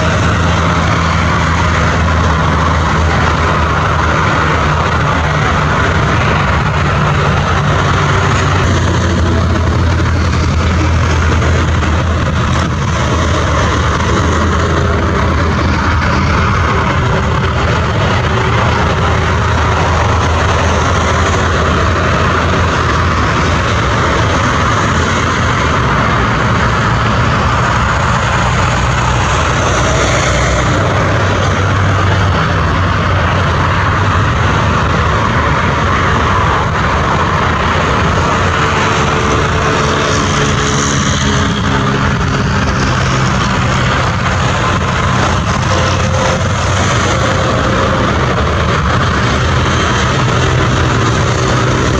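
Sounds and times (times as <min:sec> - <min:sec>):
jet engines at taxi power: 0:00.0 - 0:51.9.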